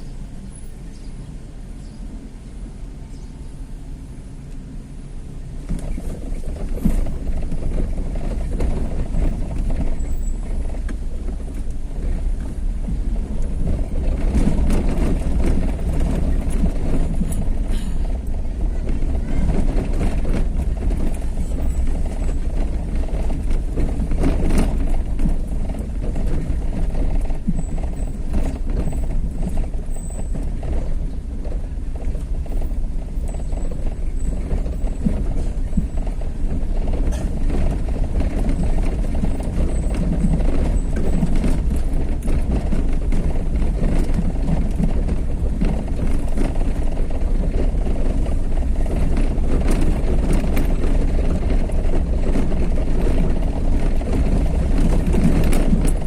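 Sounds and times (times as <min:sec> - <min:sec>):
vehicle driving rumble: 0:00.0 - 0:56.0.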